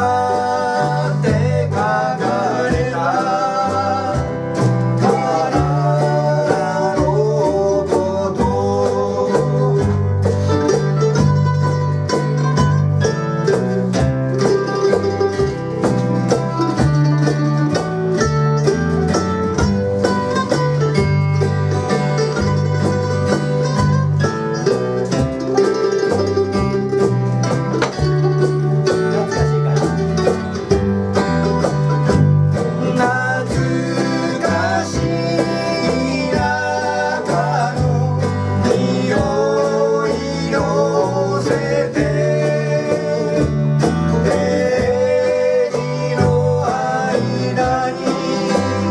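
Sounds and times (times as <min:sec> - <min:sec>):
acoustic guitar country song: 0:00.0 - 0:48.9.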